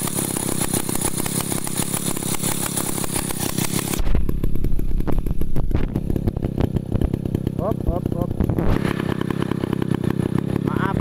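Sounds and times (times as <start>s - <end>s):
small winch engine running: 0.0s - 11.0s.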